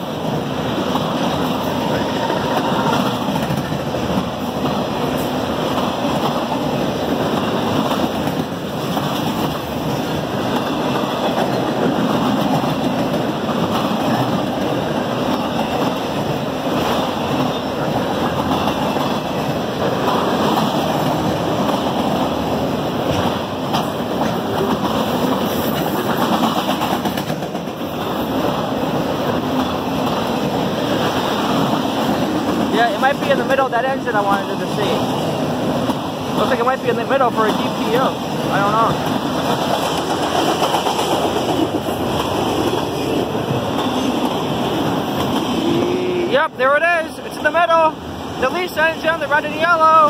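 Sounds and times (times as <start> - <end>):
freight train rolling past: 0.0 - 50.0.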